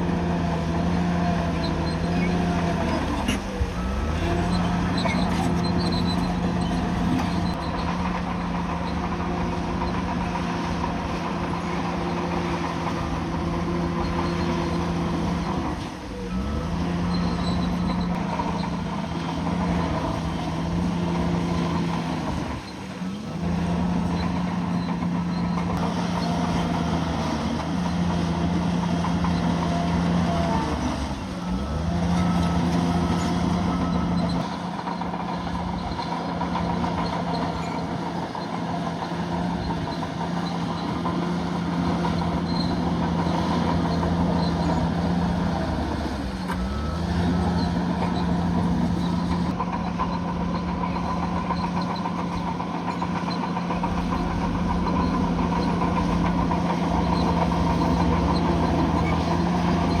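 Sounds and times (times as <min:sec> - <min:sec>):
bulldozer diesel engine running: 0:00.0 - 1:00.0.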